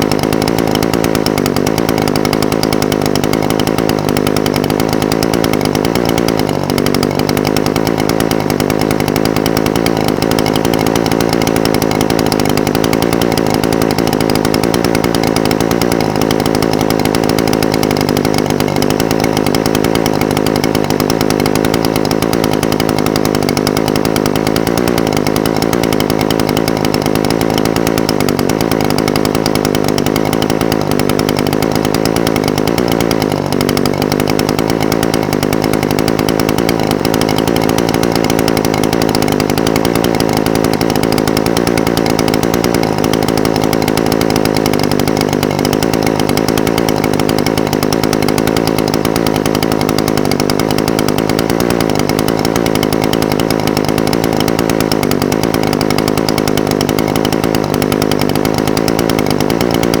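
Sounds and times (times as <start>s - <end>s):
two-stroke engine idling: 0.0s - 60.0s.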